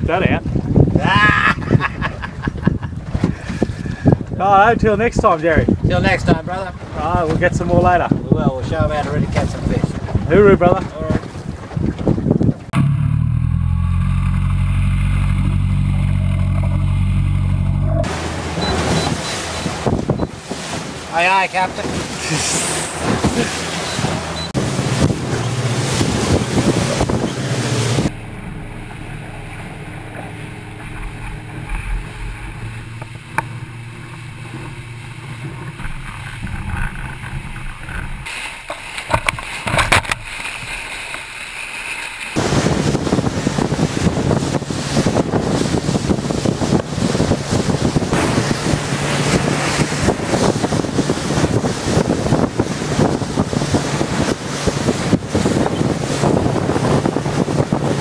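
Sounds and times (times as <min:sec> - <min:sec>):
wind buffeting microphone: 0:00.0 - 0:12.8, 0:14.4 - 0:38.3, 0:42.4 - 0:58.0
boat motor running: 0:00.0 - 0:58.0
water washing: 0:00.0 - 0:58.0.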